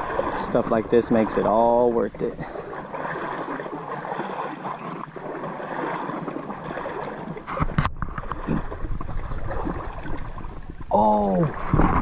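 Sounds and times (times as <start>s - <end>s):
creek water gurgling and splashing: 0.0s - 12.0s.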